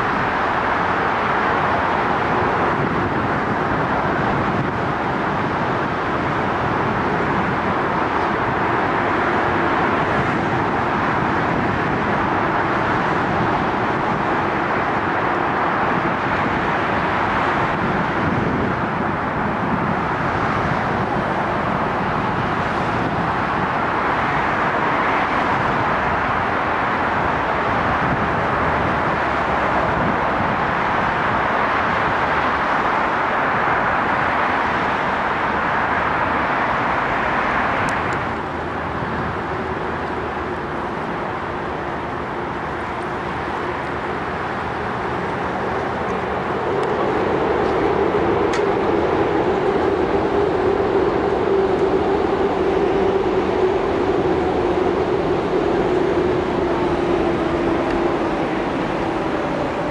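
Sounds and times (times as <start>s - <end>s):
distant city traffic: 0.0s - 59.9s.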